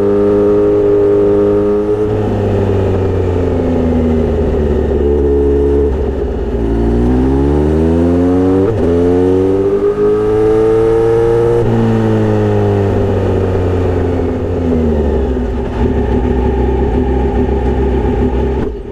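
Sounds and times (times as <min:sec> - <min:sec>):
loud motorcycle engine accelerating: 0:00.0 - 0:18.9.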